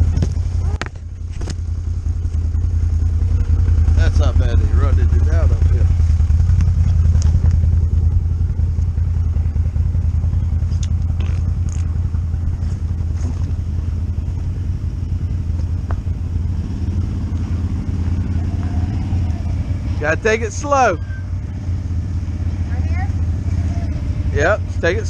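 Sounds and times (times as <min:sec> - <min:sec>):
atv engine idling: 0:00.0 - 0:25.0
second atv approaching: 0:00.0 - 0:25.0.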